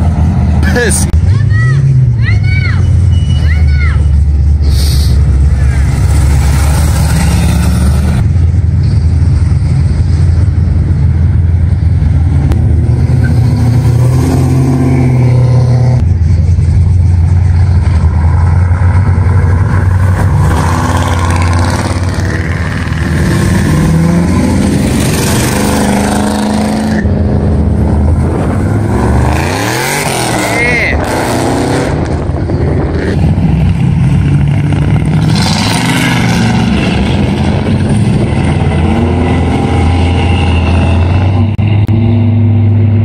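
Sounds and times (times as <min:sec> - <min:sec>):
engines rumbling: 0:00.0 - 0:43.0
cars driving past: 0:04.2 - 0:09.9, 0:11.6 - 0:43.0.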